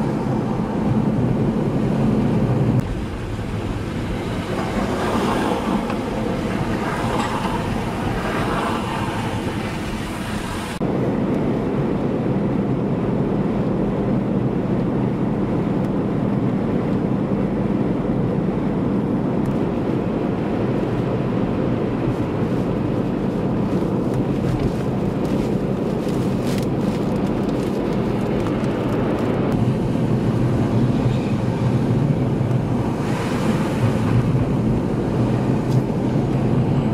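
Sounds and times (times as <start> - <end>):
truck engine rumble: 0.0 - 36.9
tyre and road noise: 0.0 - 36.9
wind: 0.0 - 36.9.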